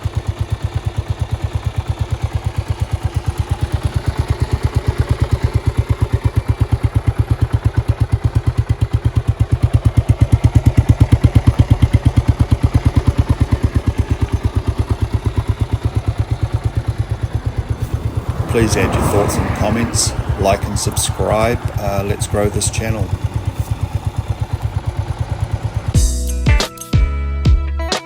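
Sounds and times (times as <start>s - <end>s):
motorcycle engine idling: 0.0s - 26.2s.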